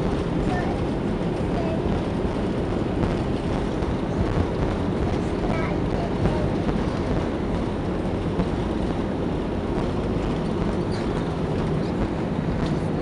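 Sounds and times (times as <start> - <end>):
rumbling aircraft cabin noise: 0.0 - 13.0.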